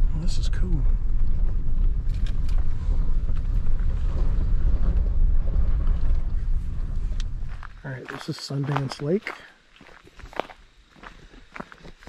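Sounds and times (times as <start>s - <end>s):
engine and tyres rumbling on gravel: 0.0s - 12.0s.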